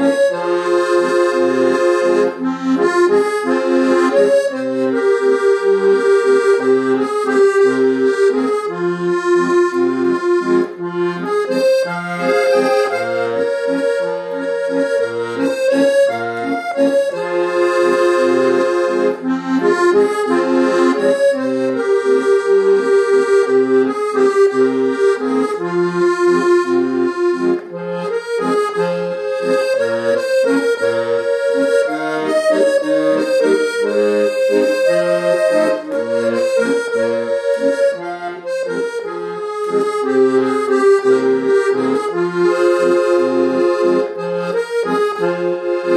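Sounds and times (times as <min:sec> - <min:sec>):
accordion playing: 0:00.0 - 0:45.9.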